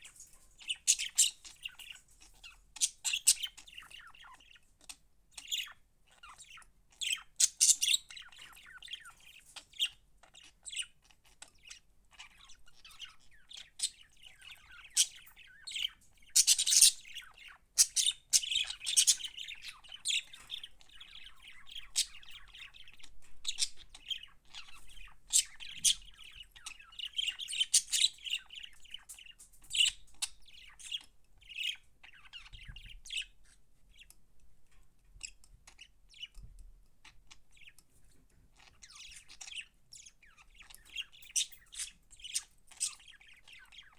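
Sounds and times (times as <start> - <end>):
budgerigars chirping and chattering: 0.0 - 34.2, 35.0 - 43.9.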